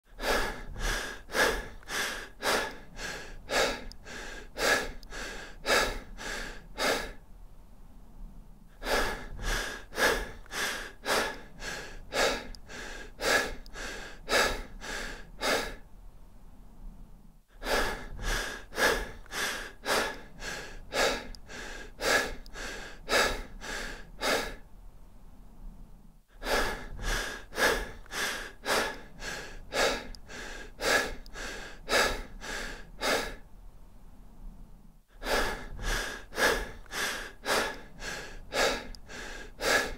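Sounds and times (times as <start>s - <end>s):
person breathing deep and fast: 0.0s - 39.9s.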